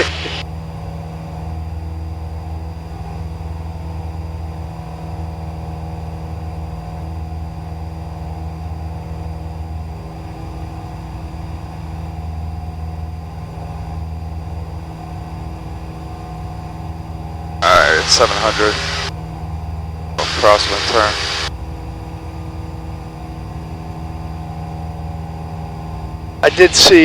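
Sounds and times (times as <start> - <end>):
propeller plane engine droning: 0.0 - 27.0.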